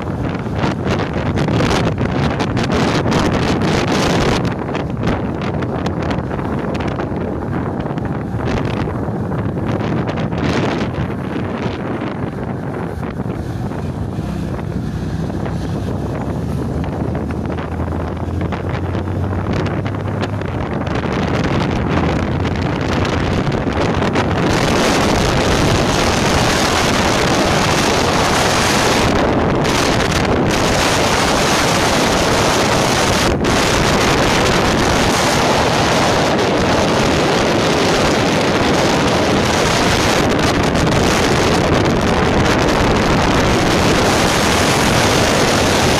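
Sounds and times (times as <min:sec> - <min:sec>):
steady rushing rumble: 0:00.0 - 0:45.9
wind buffeting microphone: 0:00.0 - 0:45.9.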